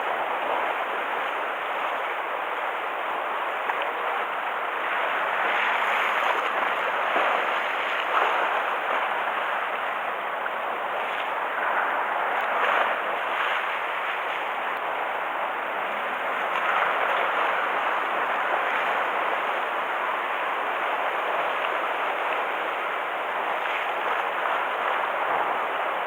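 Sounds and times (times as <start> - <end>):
sea waves splashing on shore: 0.0 - 26.0.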